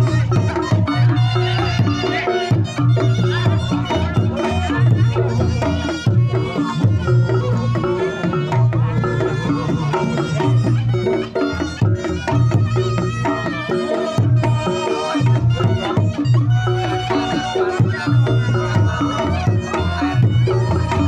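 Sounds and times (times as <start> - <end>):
fast hand drumming: 0.0 - 21.0
nasal reed shawm melody: 0.0 - 21.0.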